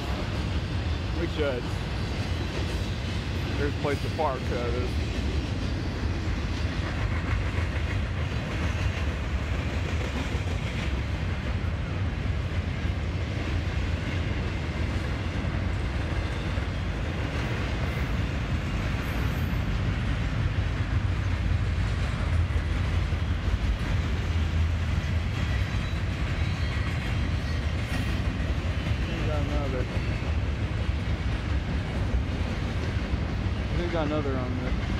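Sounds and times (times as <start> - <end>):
freight train rolling past: 0.0 - 34.9.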